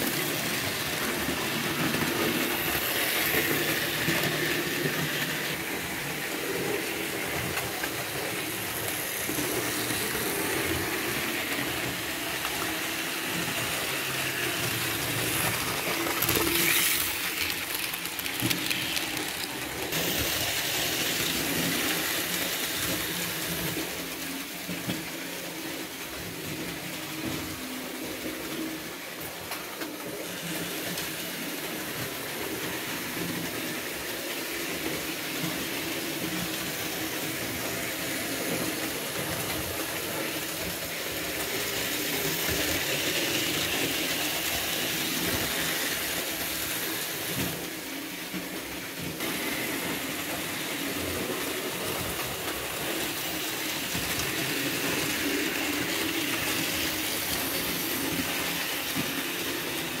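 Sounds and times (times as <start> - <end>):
model train motors whirring: 0.0 - 60.0.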